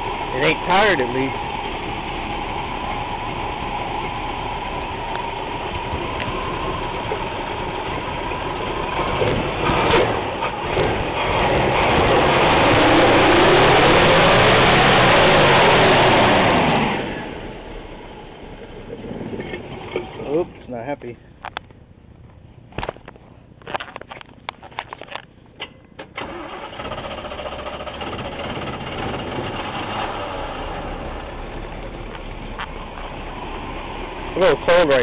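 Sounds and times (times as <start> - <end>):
engine idling: 0.0 - 11.6, 17.0 - 35.0.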